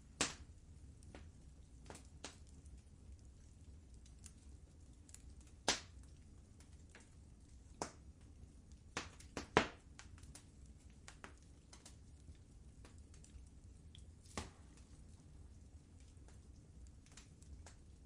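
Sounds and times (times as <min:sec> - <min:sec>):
wood fire crackling: 0:00.0 - 0:18.0
fire pops: 0:00.1 - 0:02.7, 0:03.3 - 0:18.0.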